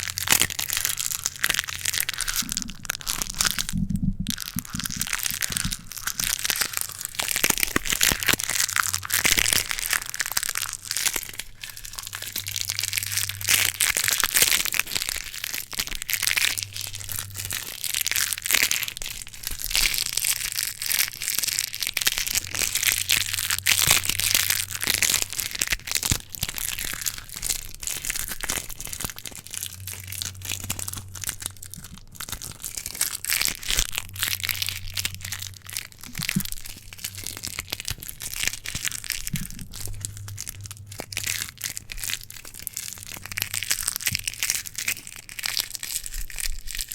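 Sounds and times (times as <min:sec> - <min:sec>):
sticky tape crinkling: 0:00.0 - 0:46.9.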